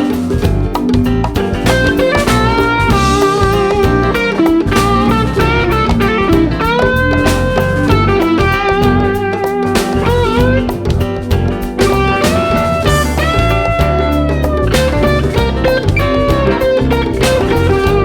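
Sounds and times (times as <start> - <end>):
bass and drums: 0.0 - 18.0
electric guitar lead line: 0.0 - 18.0.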